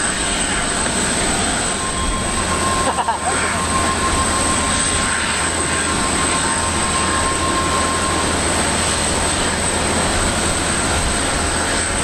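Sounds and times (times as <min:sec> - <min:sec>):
jet airliner taxiing: 0:00.0 - 0:12.0
thin high jet whine: 0:00.0 - 0:12.0.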